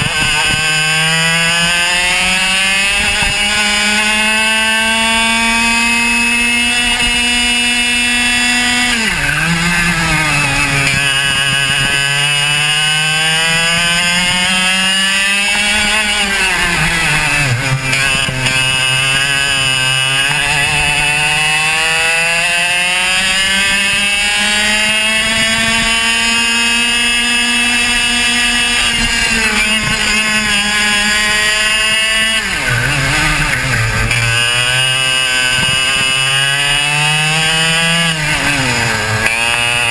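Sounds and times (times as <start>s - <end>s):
kart engine at full throttle: 0.0s - 39.9s.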